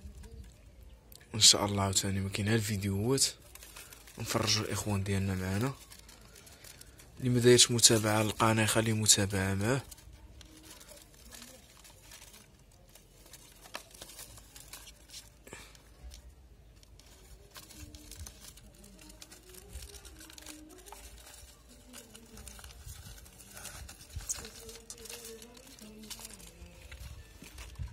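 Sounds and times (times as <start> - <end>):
faint background voices: 0.0 - 27.9
wicker box rustling and clicks: 3.3 - 27.9.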